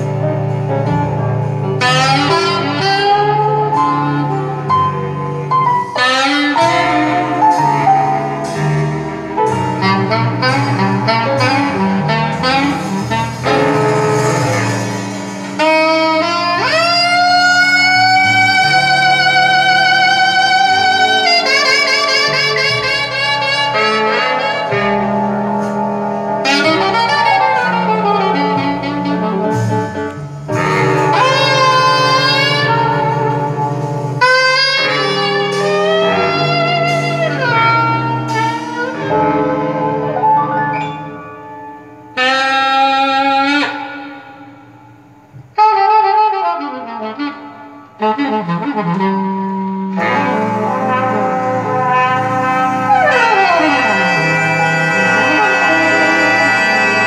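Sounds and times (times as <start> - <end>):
jazz with saxophone lead: 0.0 - 57.0.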